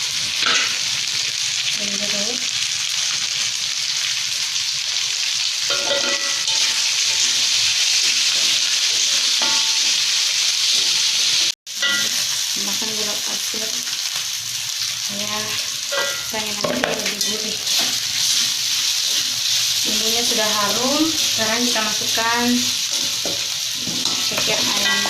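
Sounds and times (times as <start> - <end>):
spice paste sizzling in oil: 0.0 - 25.0.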